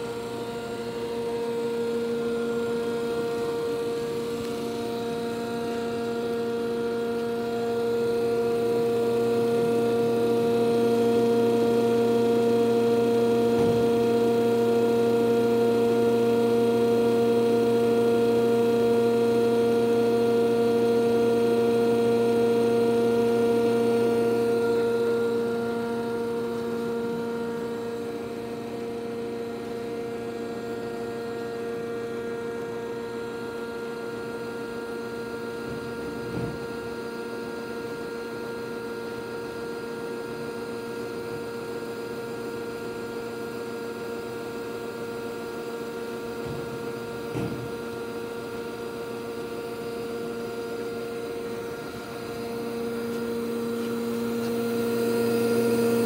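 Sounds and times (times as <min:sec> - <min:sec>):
air compressor humming: 0:00.0 - 0:56.0.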